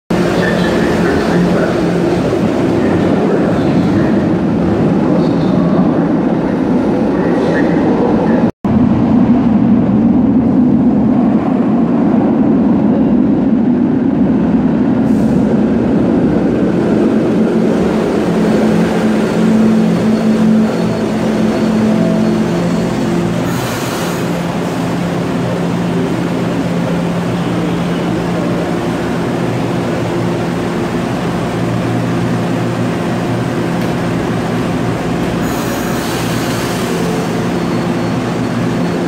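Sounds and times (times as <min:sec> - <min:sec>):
wheels rumbling on rail: 0:00.1 - 0:39.0.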